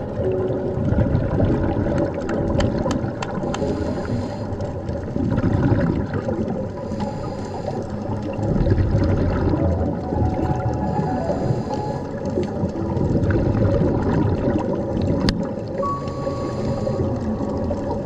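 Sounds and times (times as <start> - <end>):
gurgling exhaled bubbles: 0.0 - 18.0
muffled underwater rumble: 0.0 - 18.0.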